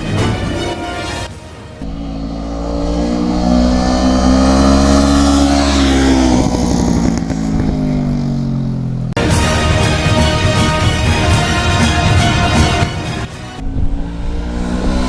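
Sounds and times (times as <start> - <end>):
motorcycle engine revving: 1.8 - 9.2, 10.0 - 15.0.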